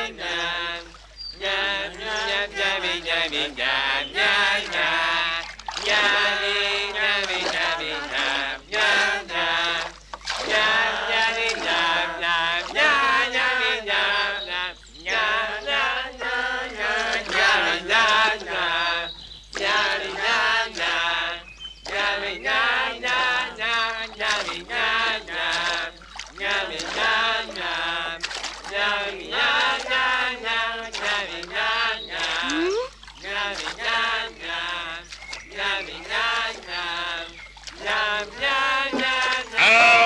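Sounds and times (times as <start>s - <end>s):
chorus chanting a song: 0.0s - 40.0s.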